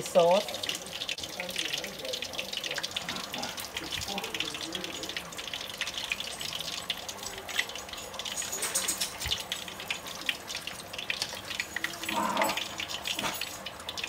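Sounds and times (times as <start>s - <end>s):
oil sizzling in a pot: 0.0s - 14.0s.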